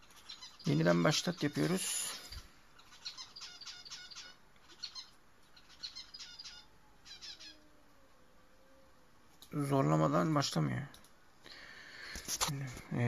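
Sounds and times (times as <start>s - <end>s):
faint bird chirping: 0.0s - 12.1s.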